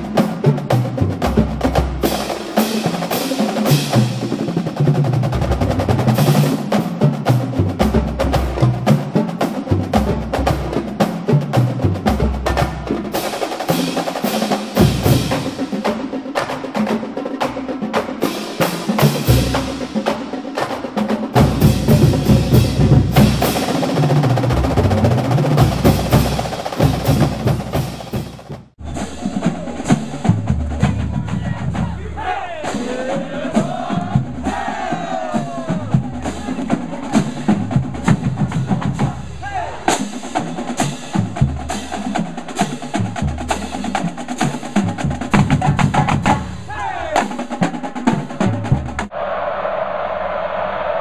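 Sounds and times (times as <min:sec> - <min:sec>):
bass drums: 0:00.0 - 0:15.9, 0:21.2 - 0:49.1
snare drum strokes and rolls: 0:00.0 - 0:51.0.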